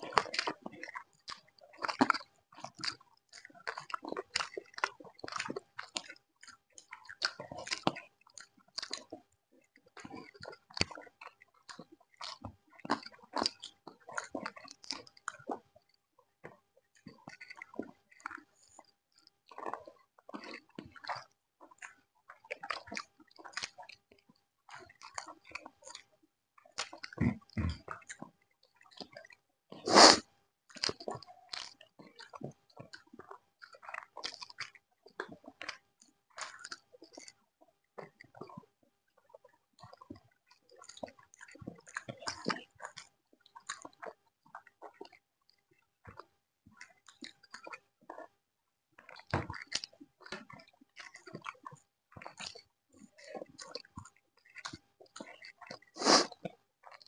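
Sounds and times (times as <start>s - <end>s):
people chewing food: 0.0s - 57.0s.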